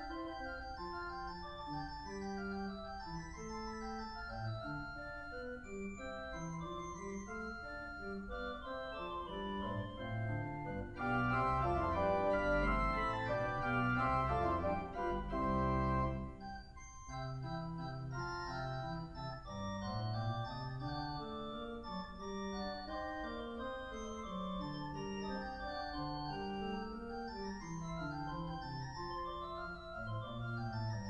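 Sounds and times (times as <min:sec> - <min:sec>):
church organ playing: 0:00.0 - 0:31.0.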